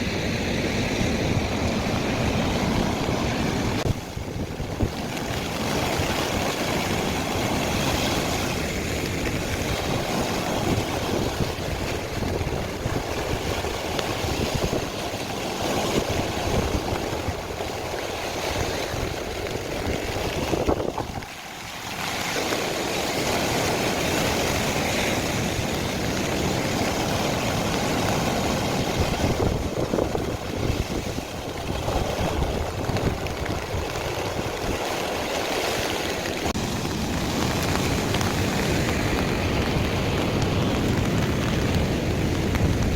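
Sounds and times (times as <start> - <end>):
sea surf breaking on beach: 0.0 - 42.9.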